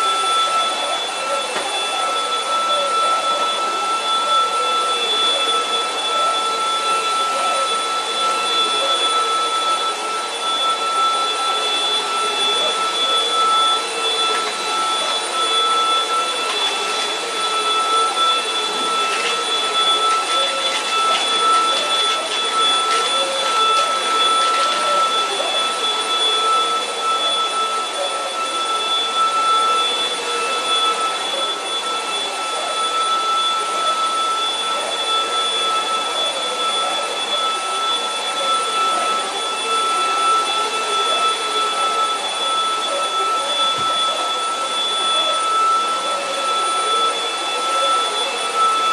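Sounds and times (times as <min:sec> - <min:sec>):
vacuum cleaners whining: 0:00.0 - 0:48.9.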